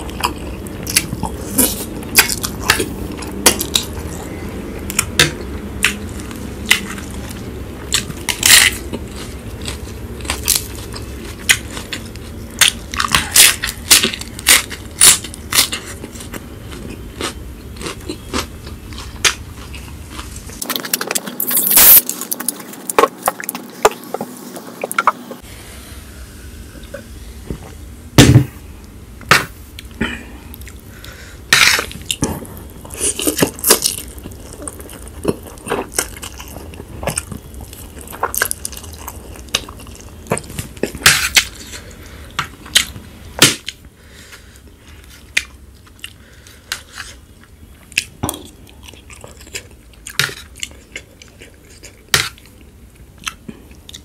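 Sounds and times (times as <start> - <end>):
crunching and chewing lettuce: 0.0 - 25.2, 30.1 - 54.0.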